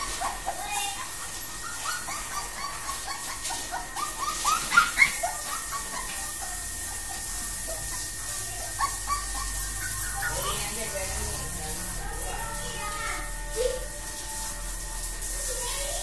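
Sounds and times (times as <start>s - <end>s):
puppy whimpering: 0.0s - 14.0s.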